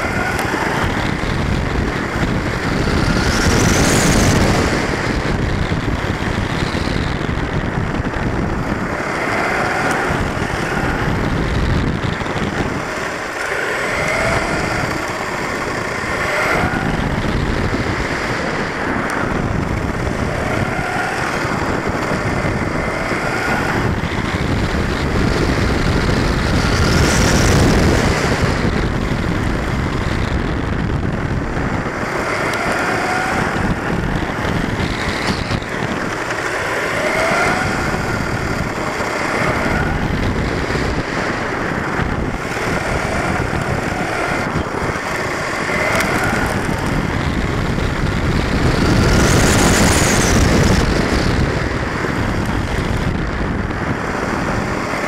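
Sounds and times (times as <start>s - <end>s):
electric motor whine: 0.0s - 55.0s
wind and tyre noise: 0.0s - 55.0s.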